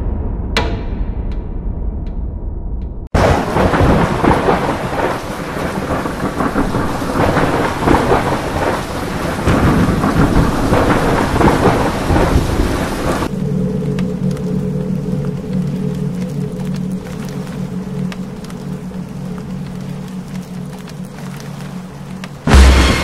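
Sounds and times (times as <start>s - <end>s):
thunder rumbling: 3.0s - 23.0s
heavy rain pouring: 3.2s - 23.0s.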